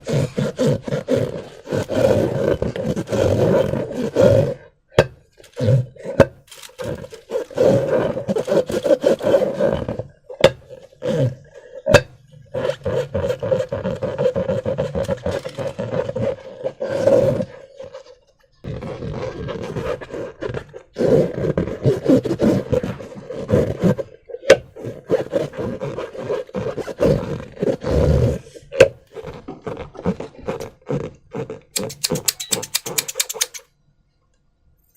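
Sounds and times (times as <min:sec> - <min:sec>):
slime squelching in balloons: 0:04.6 - 0:33.6.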